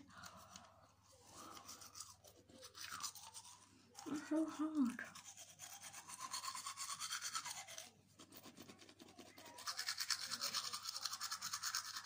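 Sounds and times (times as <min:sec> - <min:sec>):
toothbrush bristles scrubbing: 0:00.0 - 0:12.0.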